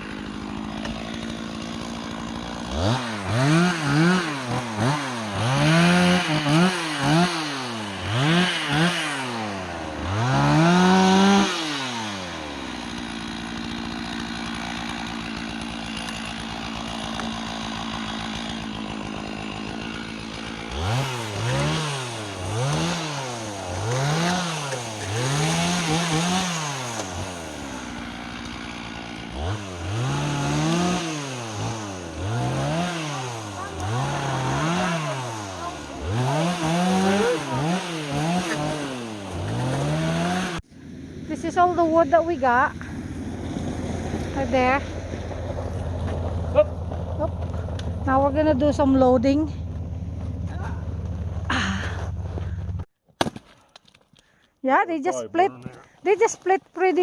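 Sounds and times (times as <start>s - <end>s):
chainsaw revving and idling: 0.0s - 52.9s, 54.7s - 57.0s.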